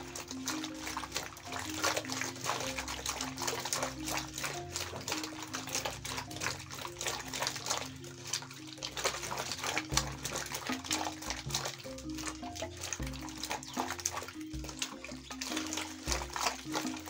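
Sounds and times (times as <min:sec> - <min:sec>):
background music: 0:00.0 - 0:17.0
water splashing in metal basin: 0:00.0 - 0:17.0.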